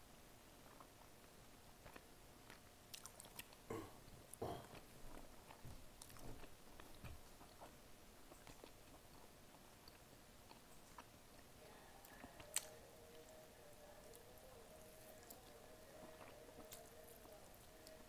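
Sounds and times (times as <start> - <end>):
person chewing: 0.6 - 13.3, 14.0 - 18.0.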